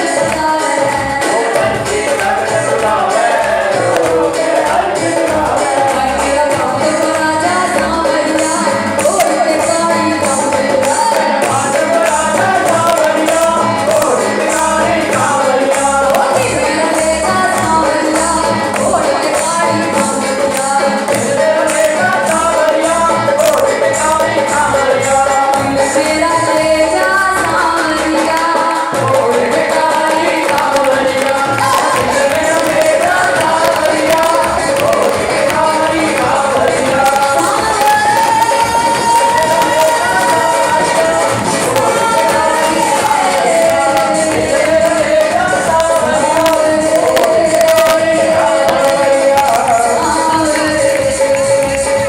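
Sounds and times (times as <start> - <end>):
instrumental accompaniment: 0.0 - 52.0
person singing over a beat: 0.0 - 52.0.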